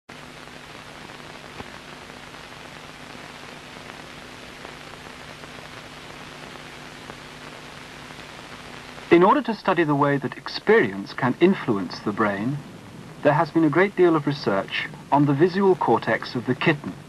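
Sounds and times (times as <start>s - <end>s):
faint low hum: 0.1s - 17.0s
film soundtrack hiss and crackle: 0.1s - 17.0s.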